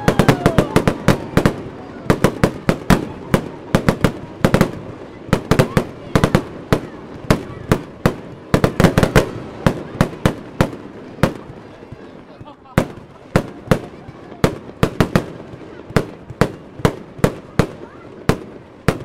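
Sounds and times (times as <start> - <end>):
fireworks bangs and pops: 0.0 - 19.0
fireworks crackling: 0.0 - 19.0.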